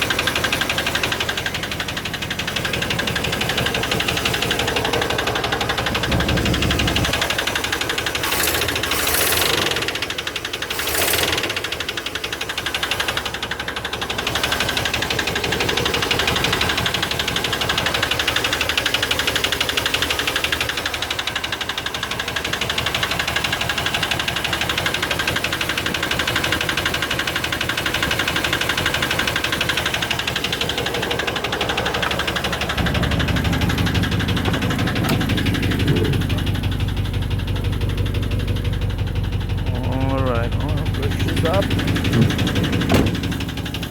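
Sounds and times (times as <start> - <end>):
car engine rumbling: 0.0 - 43.9
fast clicking from engine top: 0.0 - 43.9.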